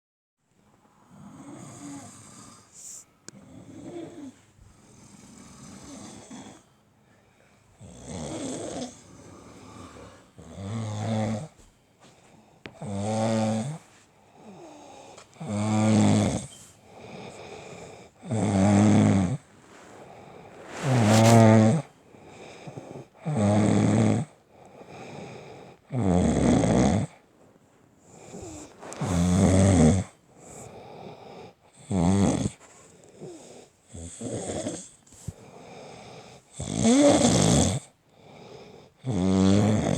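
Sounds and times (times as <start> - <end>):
quiet breaths: 0.7 - 39.9.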